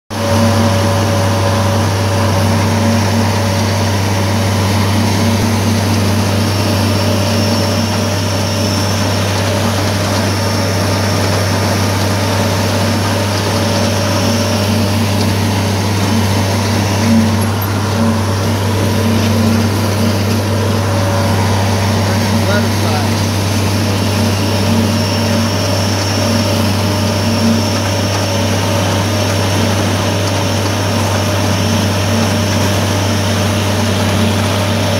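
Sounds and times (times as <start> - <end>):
mower machinery running: 0.1 - 34.9
tractor engine running: 0.1 - 34.9.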